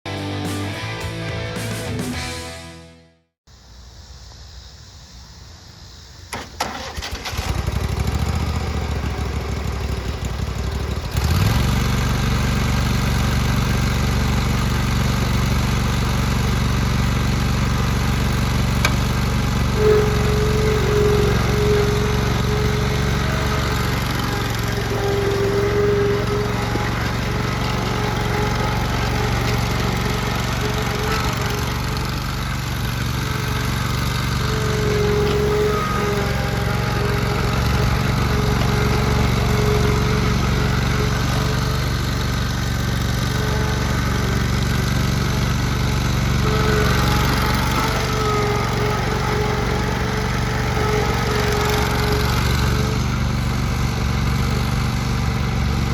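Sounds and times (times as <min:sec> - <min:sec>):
mower engine running: 0:00.1 - 0:02.7, 0:06.3 - 0:55.9
mower engine starter cranking: 0:06.3 - 0:55.9.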